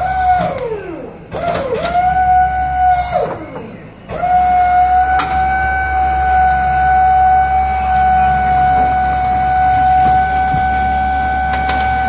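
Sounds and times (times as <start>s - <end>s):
crane hydraulics whining: 0.0s - 12.0s.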